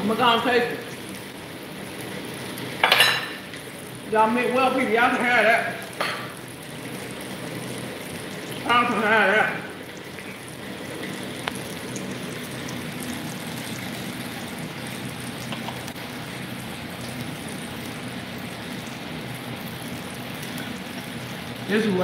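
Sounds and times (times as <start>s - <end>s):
food sizzling on hot surface: 0.0s - 22.0s.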